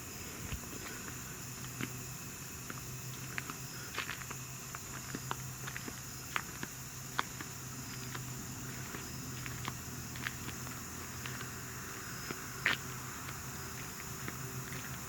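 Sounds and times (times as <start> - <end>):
steady low hum: 0.0 - 15.0
footsteps crunching on gravel: 0.4 - 15.0.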